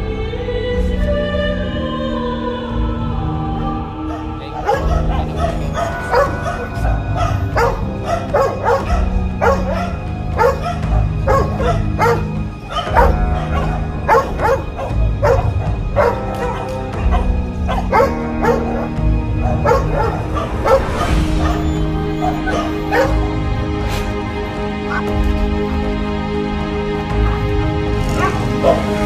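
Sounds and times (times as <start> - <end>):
background music: 0.0 - 29.0
dogs barking and yelping: 4.0 - 25.9, 27.0 - 29.0.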